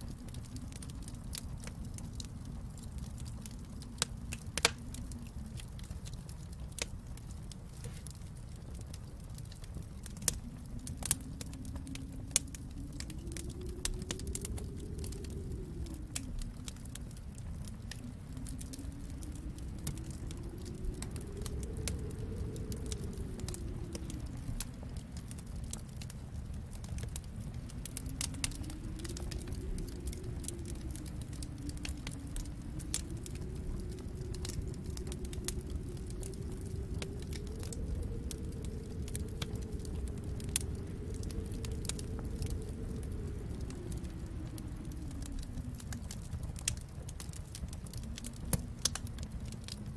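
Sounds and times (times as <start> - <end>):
low steady rumble: 0.0 - 49.9
wood fire crackling: 0.0 - 49.9.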